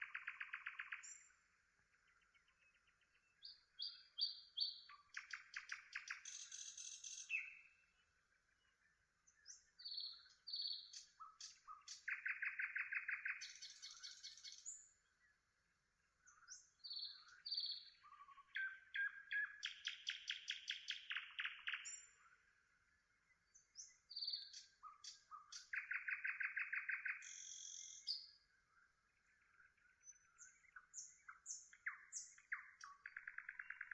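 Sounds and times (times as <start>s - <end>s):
songbird singing trills and whistles: 0.0s - 1.4s, 2.0s - 8.0s, 8.8s - 15.4s, 16.2s - 33.9s.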